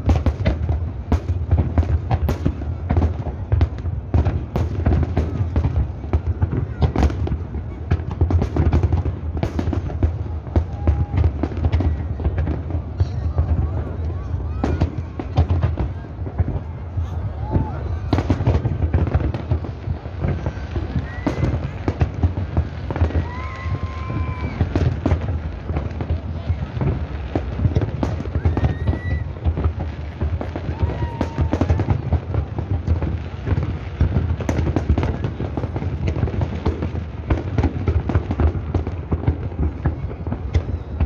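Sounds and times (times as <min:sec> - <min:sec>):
crowd voices: 0:00.0 - 0:41.0
fireworks bursting and crackling: 0:00.0 - 0:41.0.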